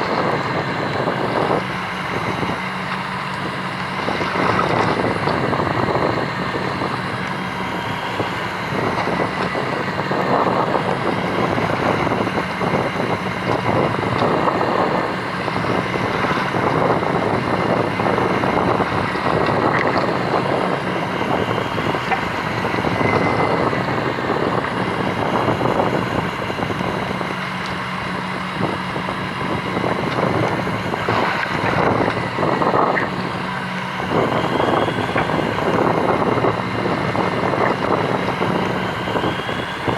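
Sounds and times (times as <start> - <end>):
boat engine running: 0.0 - 39.9
wind noise on microphone: 0.0 - 39.9.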